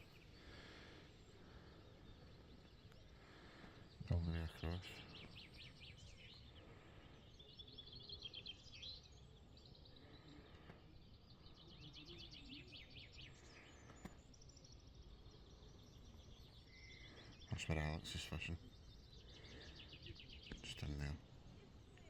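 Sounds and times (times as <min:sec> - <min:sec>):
faint songbird trills: 0:00.0 - 0:22.0.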